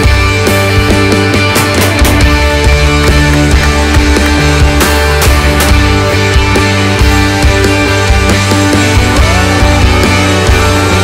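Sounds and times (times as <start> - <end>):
rock music with bass and drums: 0.0 - 11.0.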